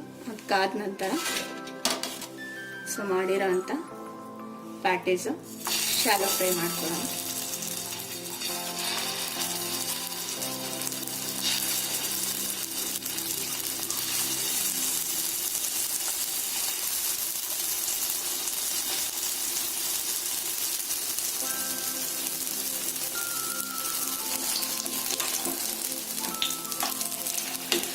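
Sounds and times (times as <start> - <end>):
patties sizzling in a pan: 5.5 - 27.9.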